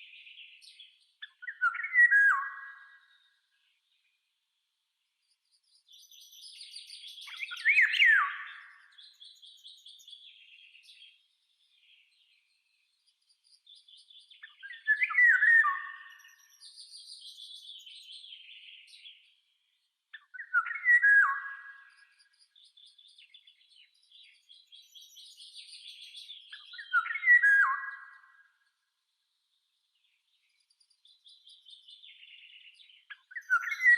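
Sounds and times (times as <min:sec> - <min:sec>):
birds twittering: 0:00.0 - 0:04.2, 0:05.3 - 0:33.9.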